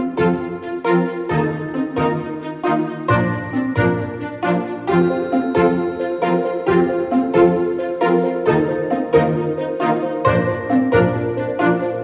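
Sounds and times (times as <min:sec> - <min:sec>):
instrumental music with steady pulse: 0:00.0 - 0:12.0.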